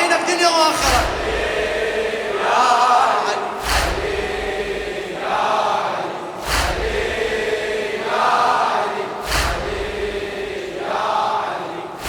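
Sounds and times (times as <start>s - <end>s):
crowd chanting in unison: 0.0s - 12.0s
massed chest-beating strikes: 0.8s - 12.0s.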